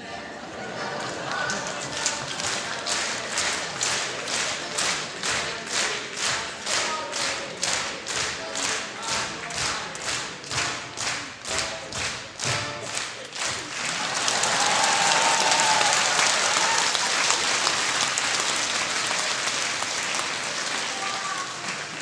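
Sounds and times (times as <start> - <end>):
audience applauding: 0.8 - 22.0.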